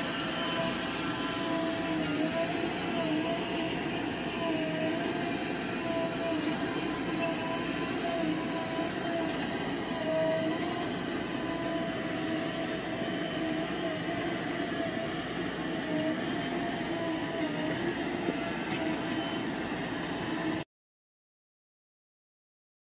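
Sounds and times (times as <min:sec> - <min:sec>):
diesel engine drone: 0:00.0 - 0:20.6
wavering whine: 0:00.0 - 0:20.6.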